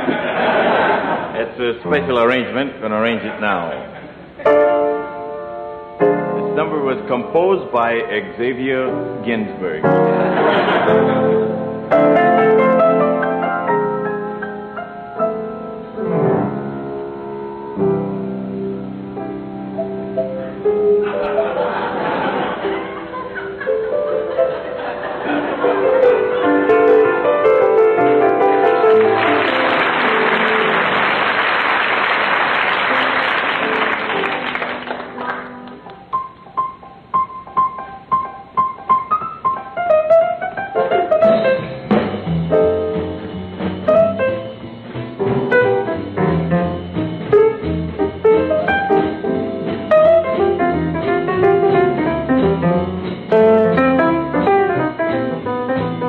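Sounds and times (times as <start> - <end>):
solo piano: 4.3 - 56.0.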